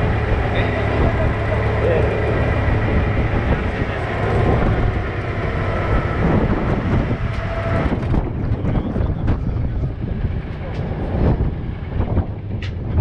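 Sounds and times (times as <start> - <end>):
hay machine rumbling and rattling: 0.0 - 13.0.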